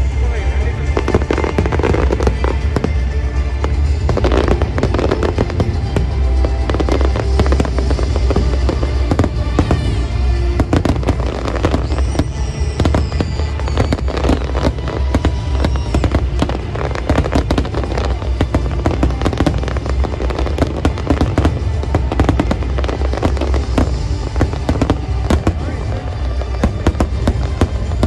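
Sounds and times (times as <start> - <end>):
fireworks banging and crackling: 0.0 - 28.0.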